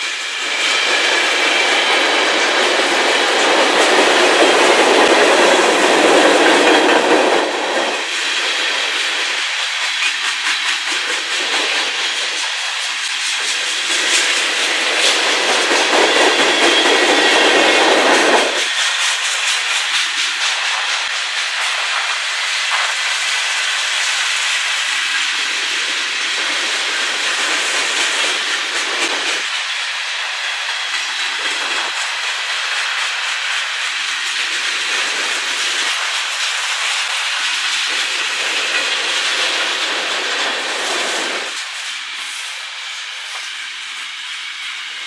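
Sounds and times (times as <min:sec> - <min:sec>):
freight cars rolling on rails: 0:00.0 - 0:45.0.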